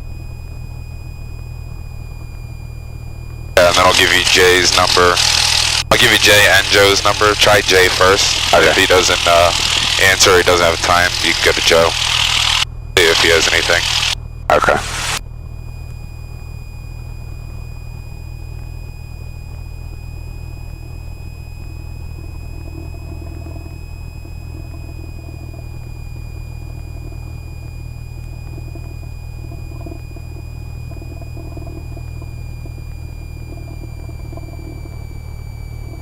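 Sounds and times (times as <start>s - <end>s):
small plane engine humming: 0.0s - 36.0s
thin steady whine: 0.0s - 36.0s.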